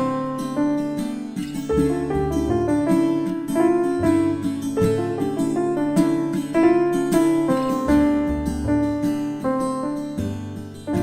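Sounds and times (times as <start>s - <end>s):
plucked guitar-like notes: 0.0s - 11.0s.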